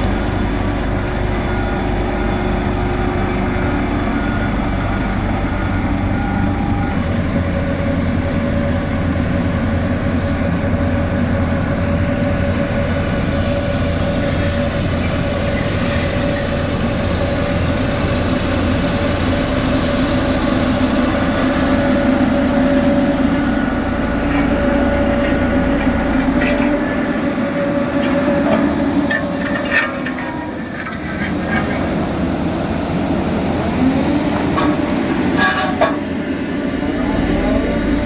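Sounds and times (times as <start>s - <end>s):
diesel machinery rumbling: 0.0s - 38.0s.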